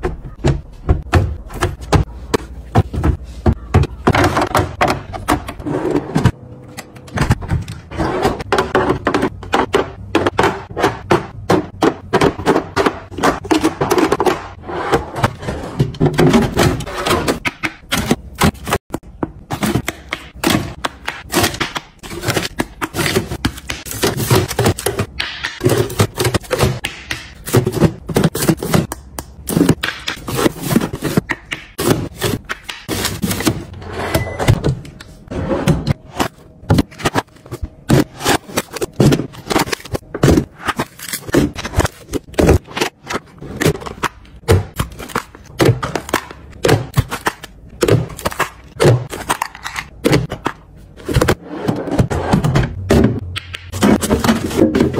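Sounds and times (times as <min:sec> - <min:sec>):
plastic containers clicking and scraping: 0:00.0 - 0:33.8, 0:34.5 - 0:54.9.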